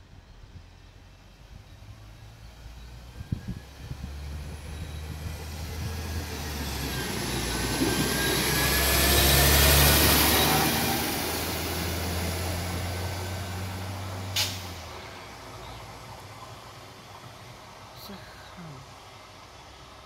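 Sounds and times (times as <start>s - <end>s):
train approaching: 0.0s - 20.0s.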